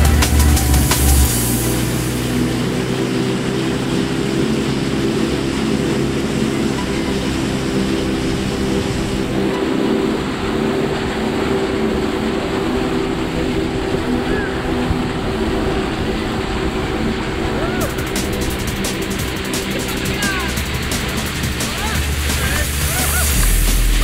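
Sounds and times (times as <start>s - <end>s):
outboard motor running: 0.0s - 24.0s
wind and water hiss: 0.0s - 24.0s.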